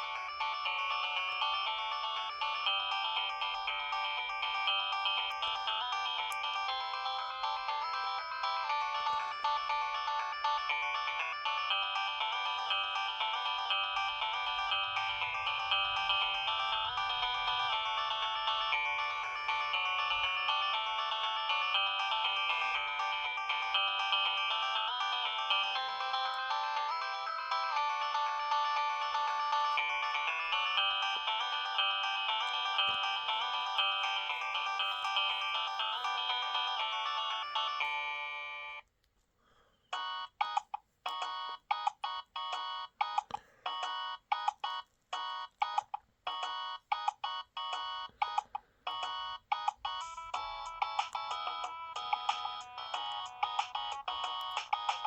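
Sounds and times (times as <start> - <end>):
electronic ringtone melody: 0.0 - 38.9, 39.9 - 55.0.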